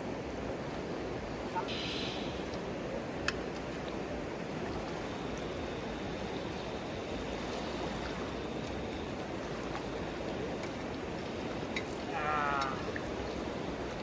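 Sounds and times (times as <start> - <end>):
river water rushing: 0.1 - 14.0.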